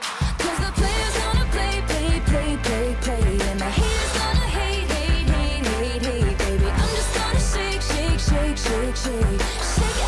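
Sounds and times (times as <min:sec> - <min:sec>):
pop music with drum beat: 0:00.0 - 0:10.0.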